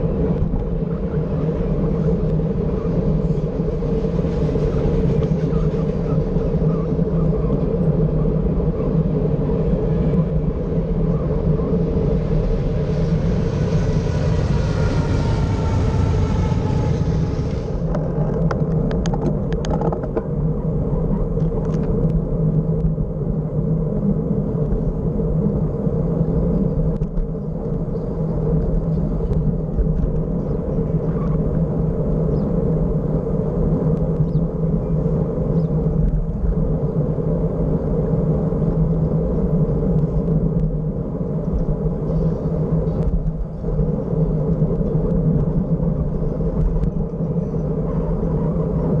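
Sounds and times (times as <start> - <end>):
road rumble: 0.0 - 49.0
wind: 0.0 - 49.0.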